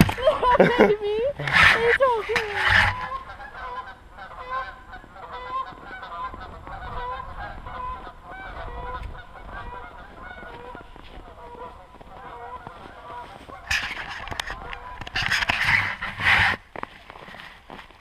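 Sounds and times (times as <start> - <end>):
geese honking: 0.0 - 16.6.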